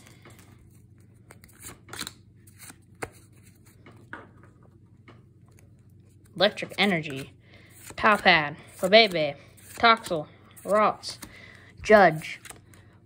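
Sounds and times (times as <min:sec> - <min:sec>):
cards clicking and rustling: 0:00.1 - 0:04.1, 0:05.5 - 0:12.9.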